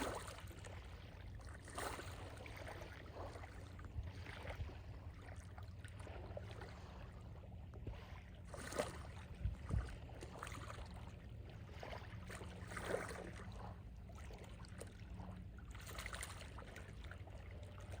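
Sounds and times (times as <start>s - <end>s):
waves lapping on shore: 0.0s - 18.0s.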